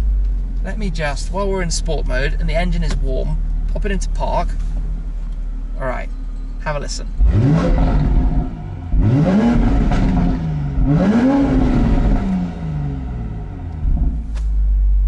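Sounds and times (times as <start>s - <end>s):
car engine idling: 0.0s - 15.0s
car engine revving: 0.0s - 15.0s.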